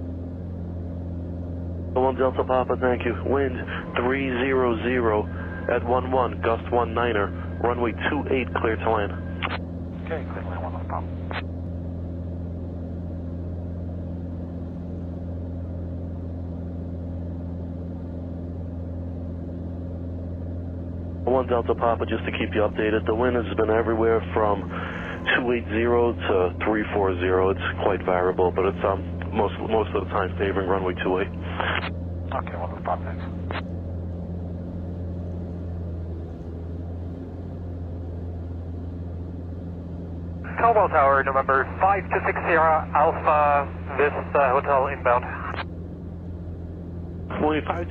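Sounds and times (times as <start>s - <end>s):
aircraft engine low drone: 0.0s - 47.9s.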